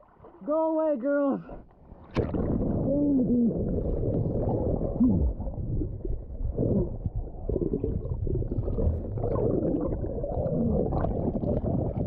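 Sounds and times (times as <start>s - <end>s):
underwater rumbling and bubbling: 1.5s - 12.0s.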